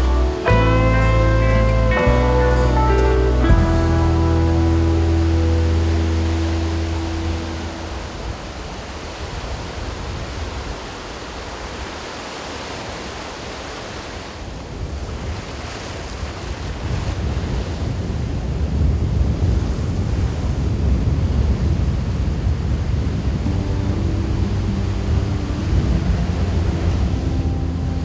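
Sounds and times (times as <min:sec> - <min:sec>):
ocean surf breaking on beach: 0:00.0 - 0:28.0
wind rumbling on microphone: 0:00.0 - 0:28.0.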